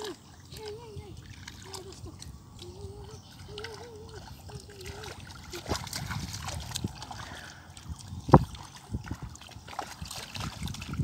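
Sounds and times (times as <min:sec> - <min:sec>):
feet wading through muddy water: 0:00.0 - 0:11.0
small water splashes: 0:00.0 - 0:11.0.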